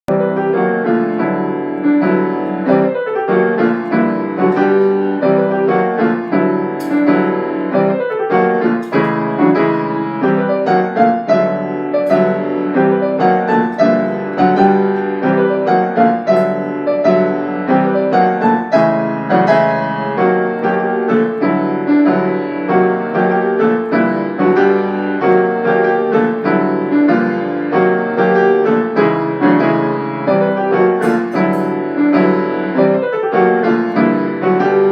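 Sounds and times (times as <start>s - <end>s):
piano playing: 0.0s - 34.9s.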